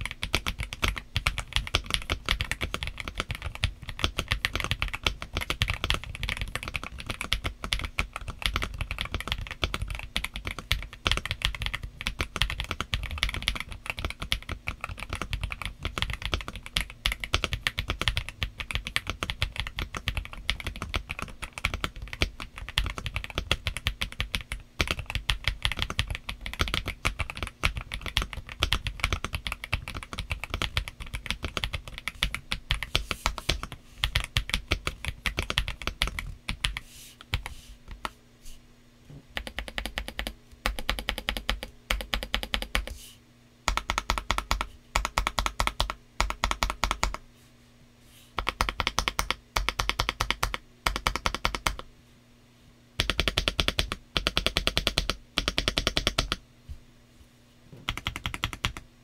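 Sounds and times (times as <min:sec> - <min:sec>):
mechanical keyboard typing: 0:00.0 - 0:38.1, 0:39.3 - 0:43.0, 0:43.7 - 0:47.2, 0:48.4 - 0:51.8, 0:53.0 - 0:56.4, 0:57.8 - 0:58.8.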